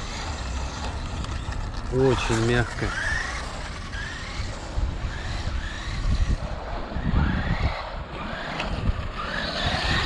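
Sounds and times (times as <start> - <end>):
electric motor whining: 0.0 - 10.0
wind rumble on microphone: 0.0 - 10.0.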